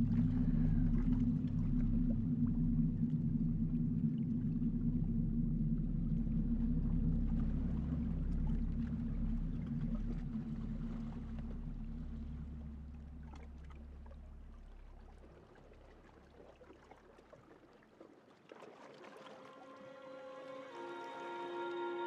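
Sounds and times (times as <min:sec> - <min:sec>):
boat motor droning: 0:00.0 - 0:16.4, 0:18.7 - 0:22.0.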